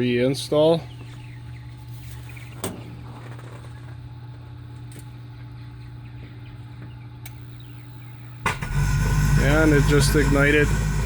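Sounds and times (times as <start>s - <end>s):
furnace humming: 0.0s - 11.0s.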